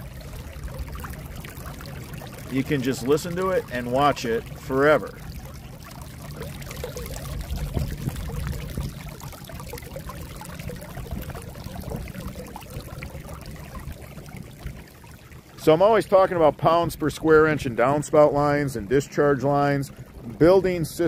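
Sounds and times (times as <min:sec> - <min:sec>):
water surging and bubbling: 0:00.0 - 0:21.0.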